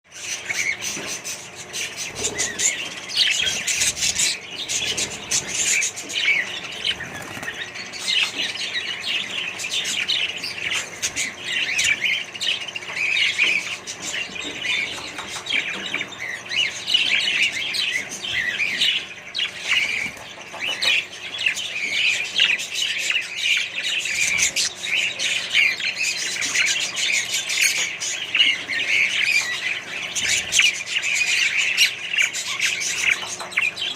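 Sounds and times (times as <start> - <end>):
parrots chirping and chattering: 0.1 - 33.9.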